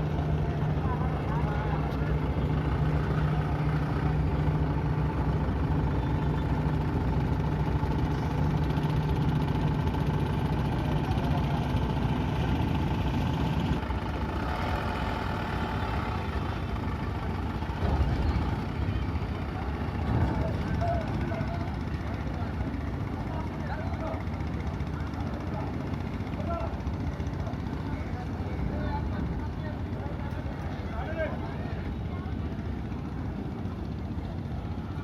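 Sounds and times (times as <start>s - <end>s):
large engine humming: 0.0s - 35.0s
rough noisy engine: 0.0s - 35.0s.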